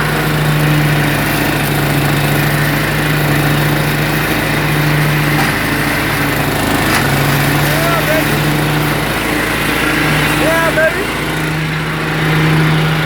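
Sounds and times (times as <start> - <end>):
riding lawnmower engine: 0.0 - 13.0.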